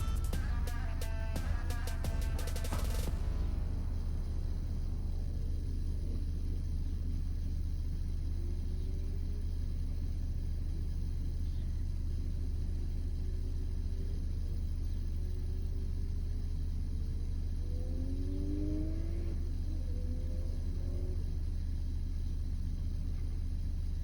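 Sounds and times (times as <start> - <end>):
engine note rising in pitch: 0.0 - 23.1
vehicle driving rumble: 0.0 - 24.0.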